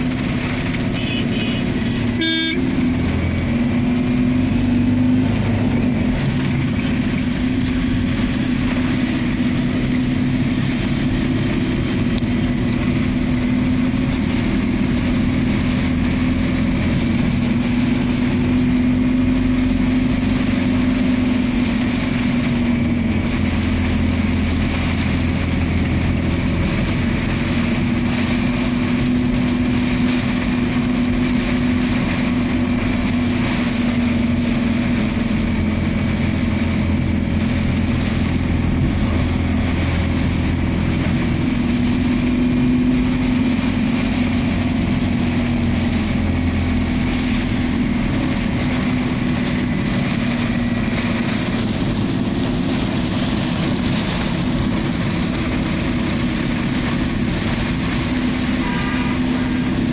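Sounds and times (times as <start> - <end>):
rain on windscreen: 0.0 - 59.9
tyres on wet road: 0.0 - 59.9
vehicle engine drone: 0.0 - 59.9.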